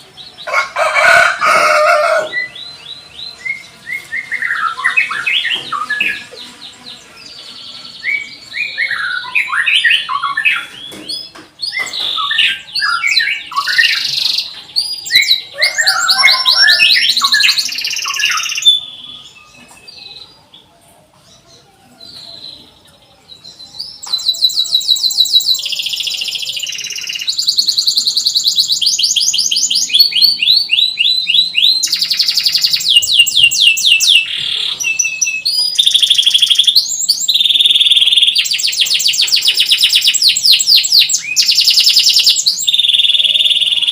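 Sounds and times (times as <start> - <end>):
canary singing: 0.0 - 43.9.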